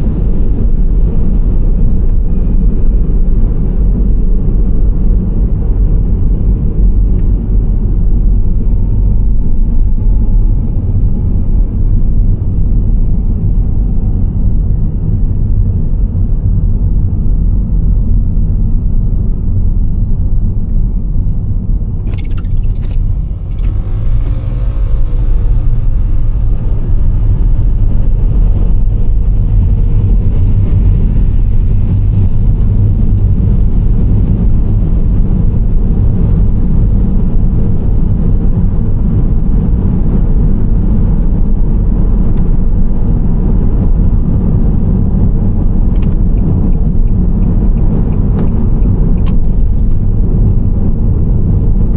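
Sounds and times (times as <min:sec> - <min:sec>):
minivan driving rumble: 0:00.0 - 0:51.9.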